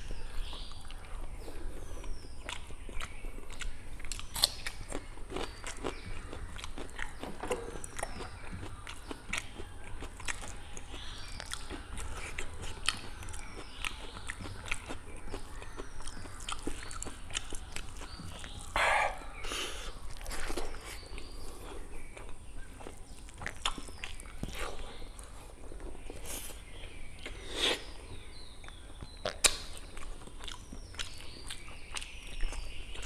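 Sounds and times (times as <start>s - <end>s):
chewing with wet smacks: 0.0s - 33.0s.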